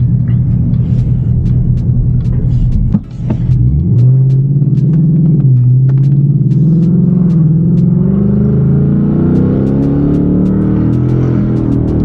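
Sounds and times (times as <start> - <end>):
car engine running at low speed: 0.0 - 12.0.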